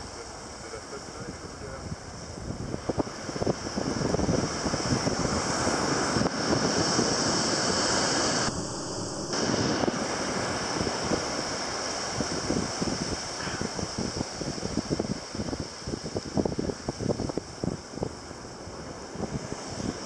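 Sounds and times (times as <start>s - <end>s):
surf on the shore: 0.0s - 20.0s
wind gusting on microphone: 0.0s - 20.0s.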